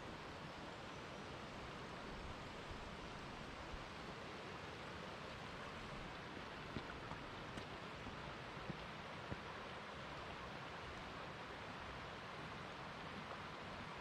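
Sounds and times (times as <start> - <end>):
river flowing over rocks: 0.0 - 14.0.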